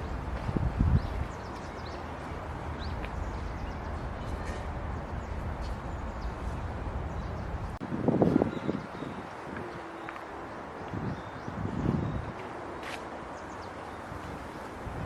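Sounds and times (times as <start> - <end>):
distant city traffic hum: 0.0 - 15.0
wind rumble on microphone: 0.0 - 15.0.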